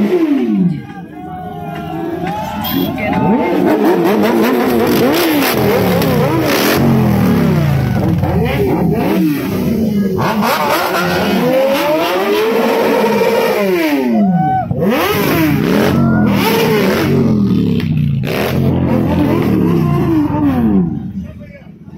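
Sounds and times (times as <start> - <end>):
motorcycle engines revving: 0.0 - 21.8.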